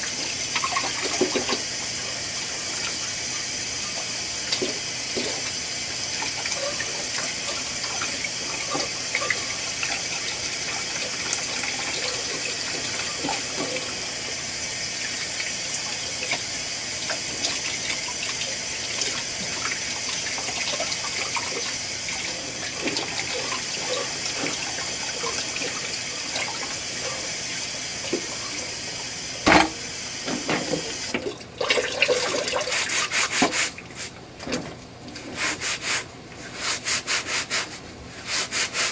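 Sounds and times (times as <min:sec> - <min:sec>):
water running from a tap: 0:00.0 - 0:34.1.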